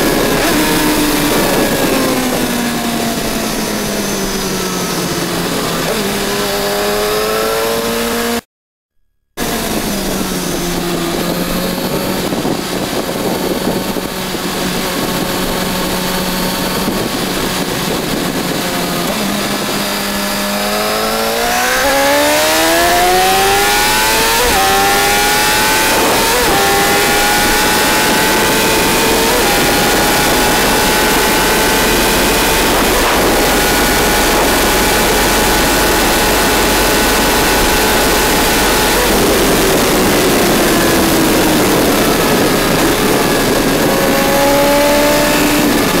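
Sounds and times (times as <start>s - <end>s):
motorcycle engine accelerating: 0.0s - 8.4s, 9.4s - 46.0s
wind noise: 0.0s - 8.4s, 9.4s - 46.0s.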